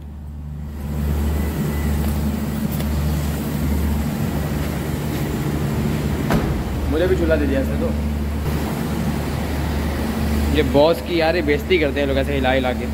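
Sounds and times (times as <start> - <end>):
low machine hum: 0.0 - 12.9.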